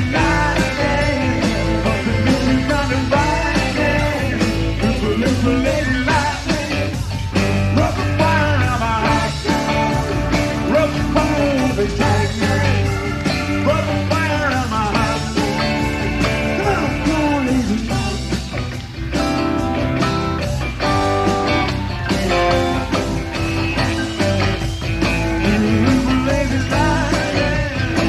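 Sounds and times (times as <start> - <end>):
bass: 0.0 - 28.0
bending lead guitar line: 0.0 - 28.0
drums: 0.0 - 28.0.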